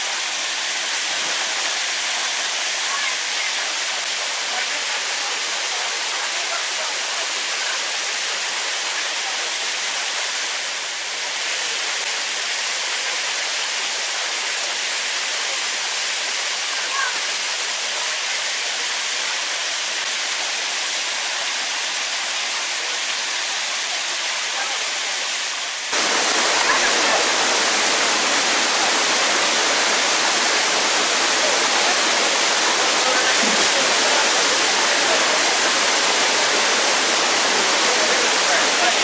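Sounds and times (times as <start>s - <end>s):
mountain stream rushing: 0.0s - 39.0s.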